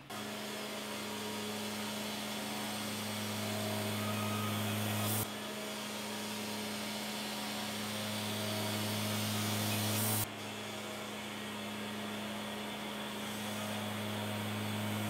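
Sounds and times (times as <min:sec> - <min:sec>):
bandsaw mill cutting wood: 0:00.0 - 0:15.0.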